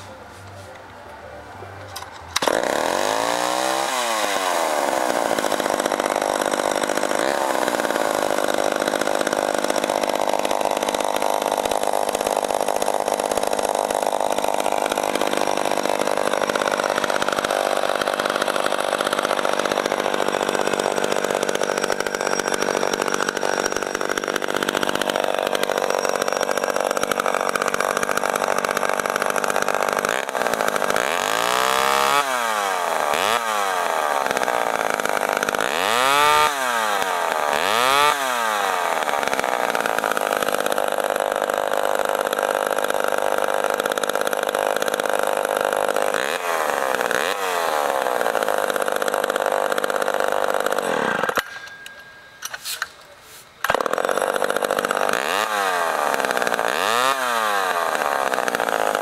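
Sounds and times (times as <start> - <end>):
chainsaw engine revving: 1.9 - 51.5, 53.6 - 59.0.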